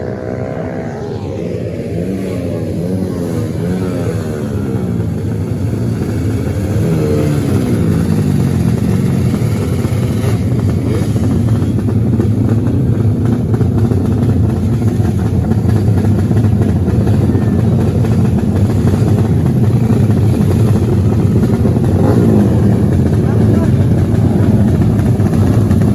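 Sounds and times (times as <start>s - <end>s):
racing motorcycle engines revving: 0.0s - 25.9s.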